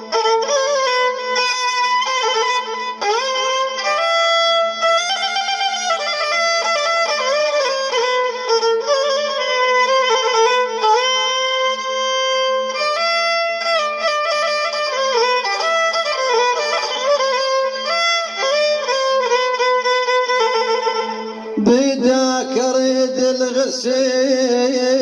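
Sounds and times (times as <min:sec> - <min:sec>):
violin playing sliding notes: 0:00.0 - 0:23.2.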